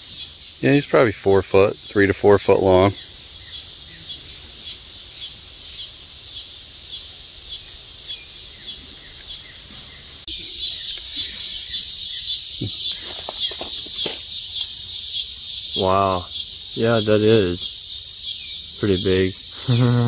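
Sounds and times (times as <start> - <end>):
chirping wildlife chorus: 0.0 - 20.0.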